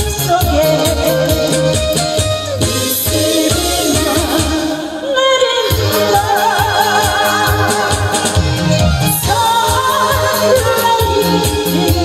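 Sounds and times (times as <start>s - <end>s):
backing music with steady beat: 0.0s - 12.0s
woman singing into a microphone: 0.0s - 12.0s.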